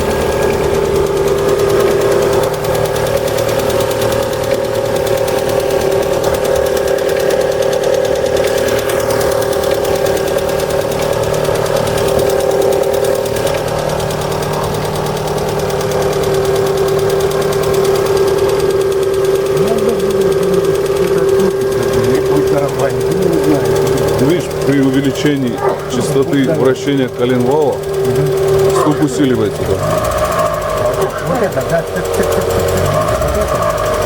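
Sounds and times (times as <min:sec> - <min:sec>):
engine running with ticking knock: 0:00.0 - 0:34.0.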